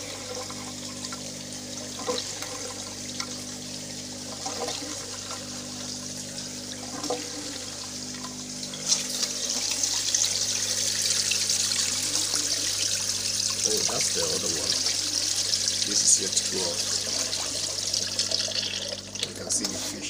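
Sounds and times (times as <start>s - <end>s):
water gurgling down a siphon: 0.0s - 19.4s
water gushing from a pipe: 0.0s - 20.0s.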